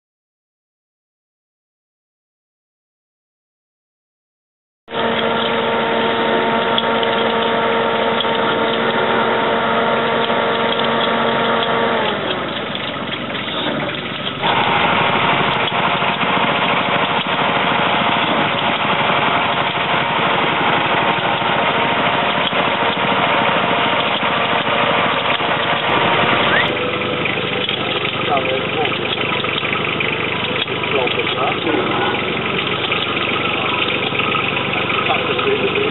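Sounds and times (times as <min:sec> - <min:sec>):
engine running: 0:04.9 - 0:35.9.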